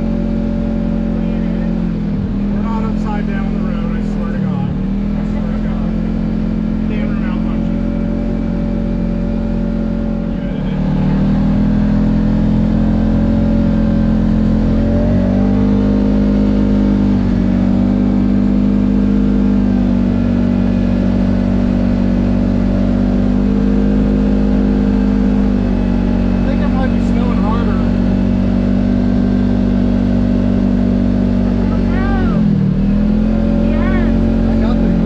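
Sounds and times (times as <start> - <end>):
vehicle engine running while driving: 0.0 - 35.0.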